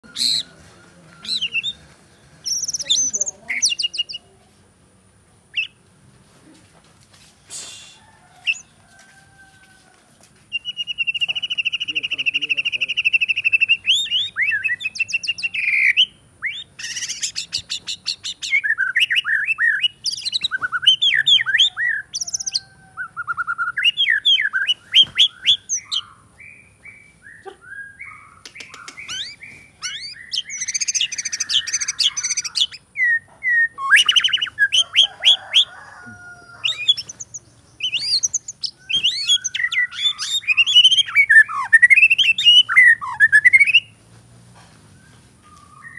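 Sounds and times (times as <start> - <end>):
songbird singing: 0.0 - 6.6, 7.4 - 45.9.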